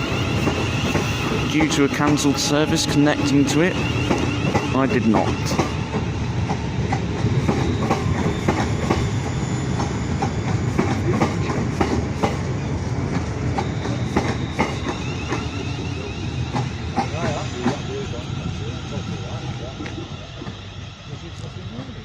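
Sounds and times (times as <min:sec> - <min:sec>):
train running gear rumble: 0:00.0 - 0:22.0.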